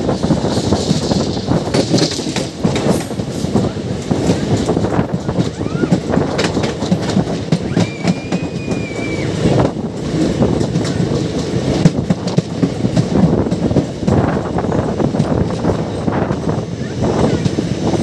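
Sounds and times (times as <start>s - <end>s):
train wheels clattering over rail joints: 0.0s - 18.0s.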